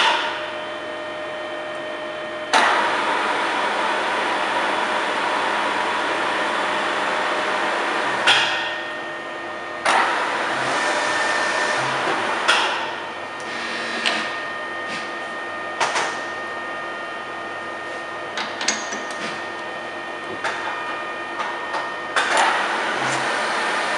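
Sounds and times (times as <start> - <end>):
milling machine whirring: 0.0 - 23.9.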